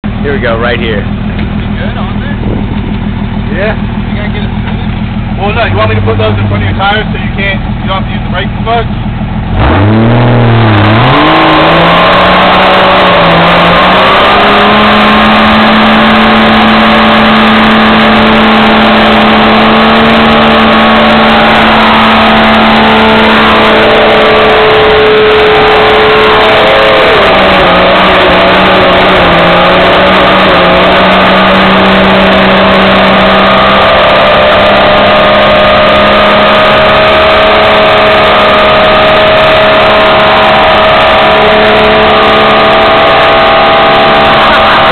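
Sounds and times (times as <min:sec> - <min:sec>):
engine revving high: 0:03.4 - 0:44.9.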